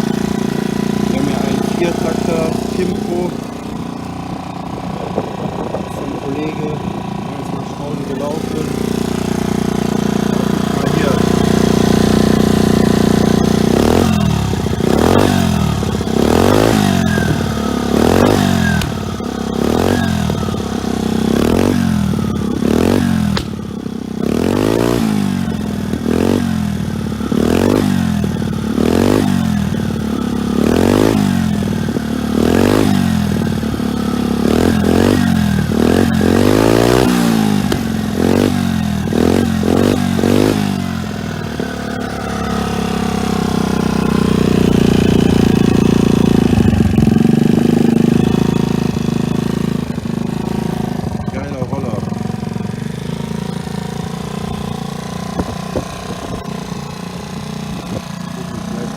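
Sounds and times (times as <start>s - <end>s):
scooter engine revving: 0.0s - 58.9s.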